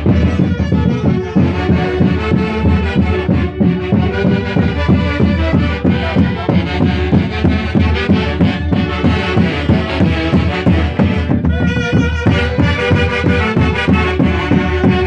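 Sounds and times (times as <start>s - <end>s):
live band dance music: 0.0s - 15.0s.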